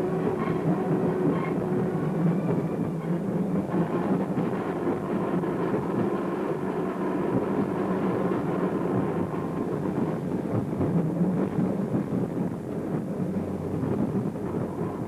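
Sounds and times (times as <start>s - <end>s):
electric tram rumbling: 0.0s - 15.0s.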